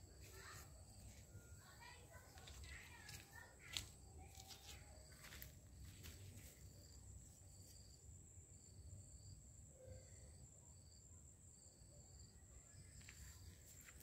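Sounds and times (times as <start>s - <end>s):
insects buzzing and chirping: 0.0s - 14.0s.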